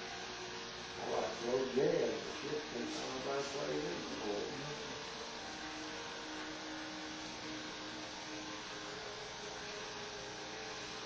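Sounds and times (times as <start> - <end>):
electric hair clippers humming: 0.0 - 11.0.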